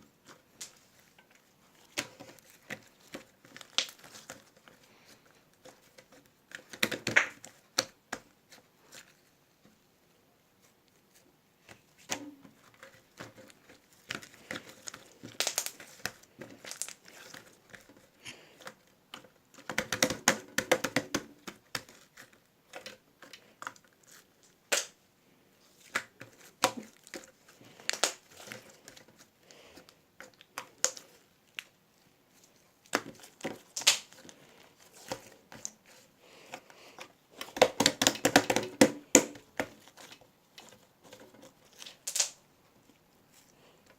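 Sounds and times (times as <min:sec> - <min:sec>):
crinkling and rustling: 0:00.0 - 0:09.9, 0:10.5 - 0:43.9.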